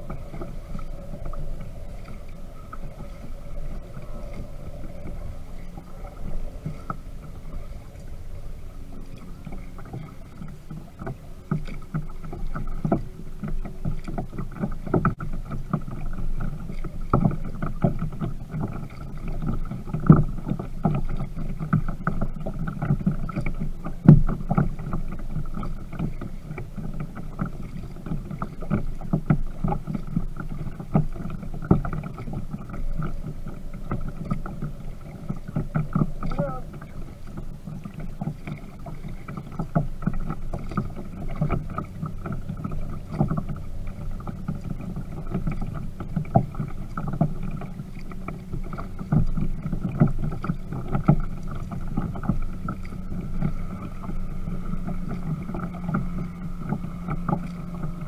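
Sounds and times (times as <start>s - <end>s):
paddle splashing and dripping: 0.0s - 58.0s.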